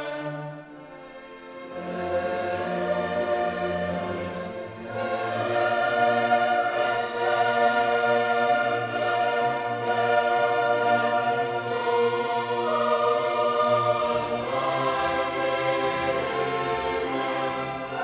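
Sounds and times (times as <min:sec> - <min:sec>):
choral and orchestral music: 0:00.0 - 0:18.0.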